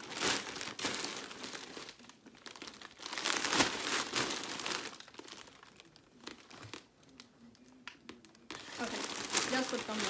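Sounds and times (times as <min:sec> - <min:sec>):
plastic bag crinkling: 0:00.0 - 0:07.2, 0:08.2 - 0:10.0.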